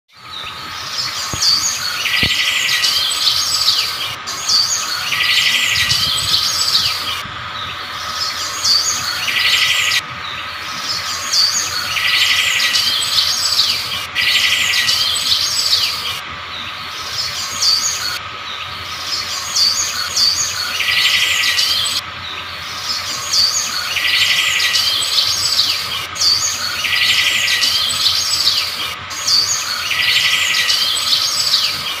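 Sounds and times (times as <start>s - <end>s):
birds chirping and whistling: 0.2s - 32.0s
buzzy bird trill: 0.2s - 32.0s.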